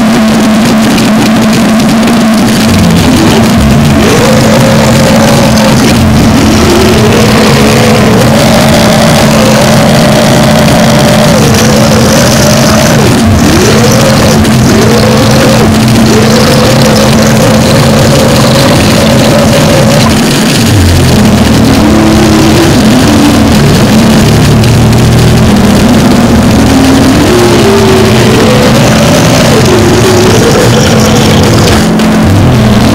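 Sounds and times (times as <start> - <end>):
distorted noise wall: 0.0 - 32.9
steady low hum: 0.0 - 32.9.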